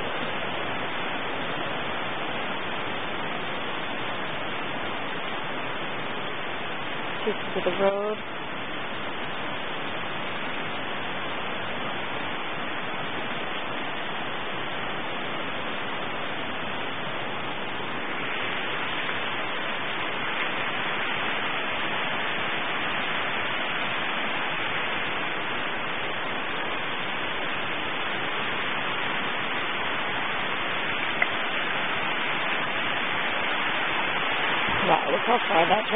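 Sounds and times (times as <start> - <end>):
brook water rushing: 0.0 - 35.9.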